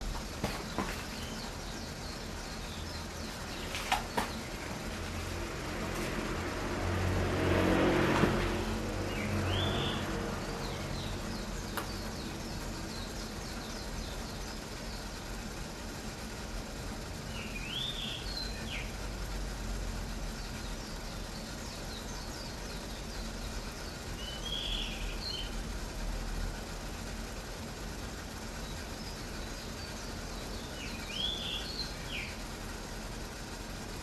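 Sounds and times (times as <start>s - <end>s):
water softener hiss and hum: 0.0s - 34.0s.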